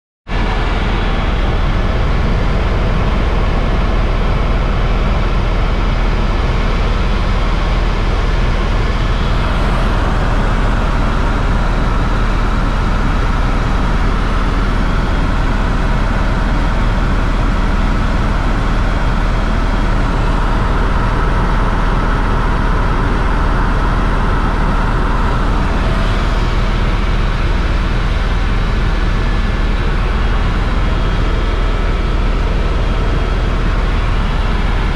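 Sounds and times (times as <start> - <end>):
helicopter rotor and engine noise: 0.3 - 34.9.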